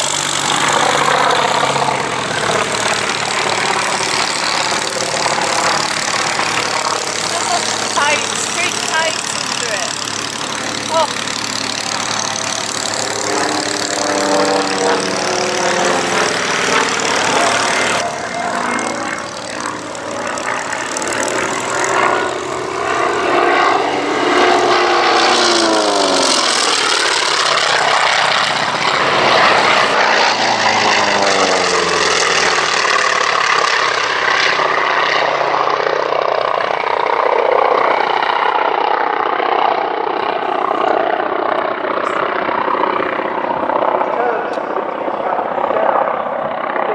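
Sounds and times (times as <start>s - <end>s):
propeller aircraft flying past: 0.0s - 46.9s.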